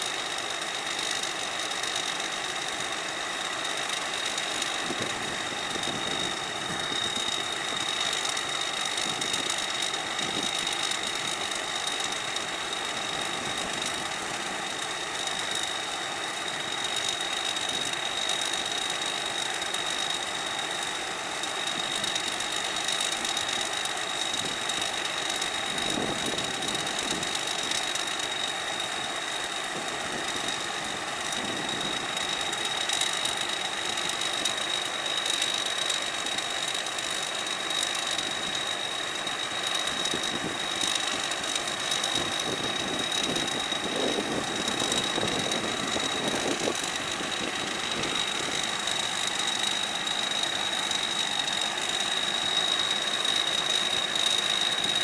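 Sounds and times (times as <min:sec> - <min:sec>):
combine harvester engine: 0:00.0 - 0:55.0.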